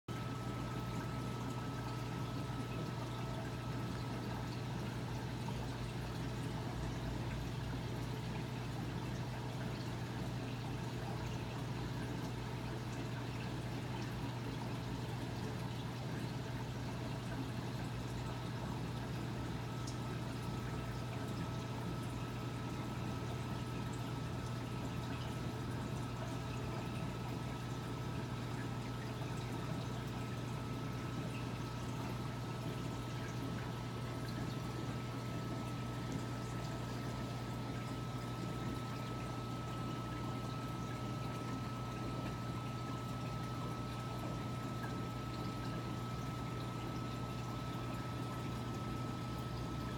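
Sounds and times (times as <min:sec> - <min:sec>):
pump hum: 0:00.1 - 0:49.9
running water trickling: 0:00.1 - 0:49.9.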